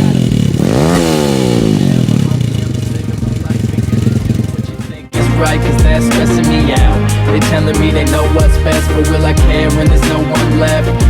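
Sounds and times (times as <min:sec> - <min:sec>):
bass-heavy hip hop beat: 0:00.0 - 0:11.0
rapped vocal: 0:00.0 - 0:11.0.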